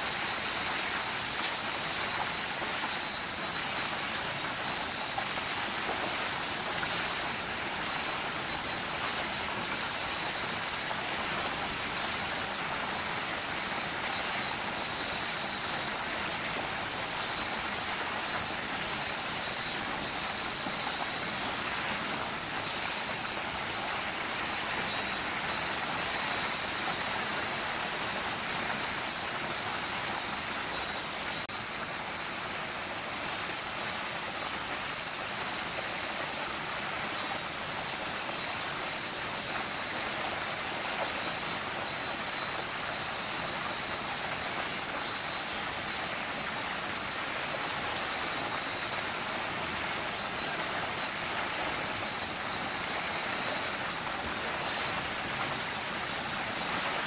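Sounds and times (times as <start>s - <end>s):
cicada chorus buzzing: 0.0s - 57.0s
pulsing insect call: 0.0s - 57.0s.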